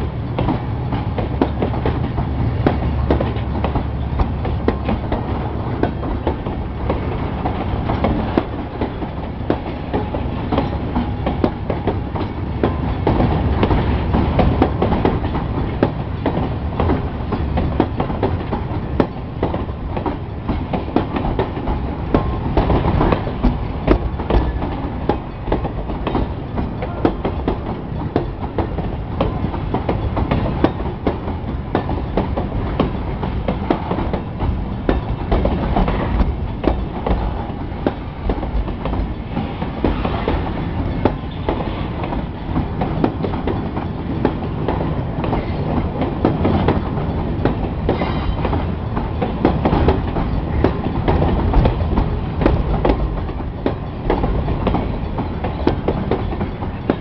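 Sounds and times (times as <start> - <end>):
steel wheels rumbling on rail: 0.0 - 57.0
wheels clacking over rail joints: 0.0 - 57.0.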